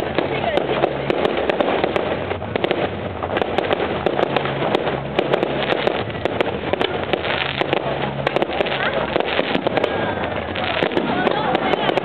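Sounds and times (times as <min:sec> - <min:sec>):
dense fireworks crackle: 0:00.0 - 0:12.0
fireworks cracking and popping: 0:00.0 - 0:12.0.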